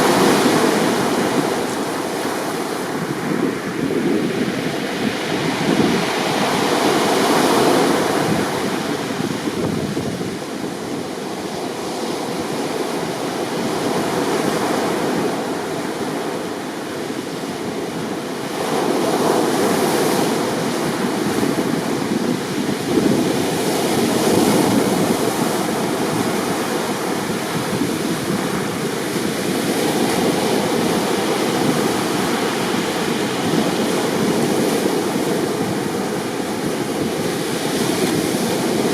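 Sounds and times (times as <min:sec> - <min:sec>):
heavy surf breaking: 0:00.0 - 0:38.9.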